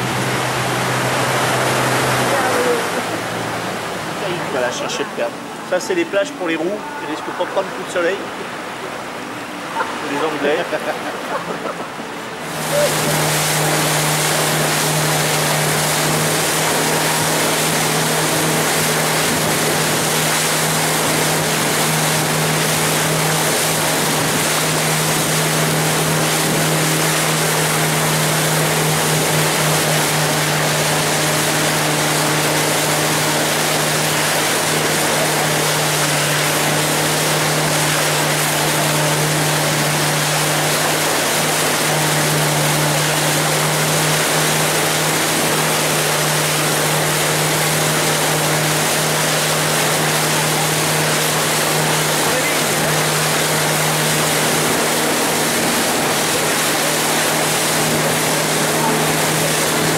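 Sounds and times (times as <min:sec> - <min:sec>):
boat engine droning: 0:00.0 - 0:59.9
water rushing along hull: 0:00.0 - 0:59.9.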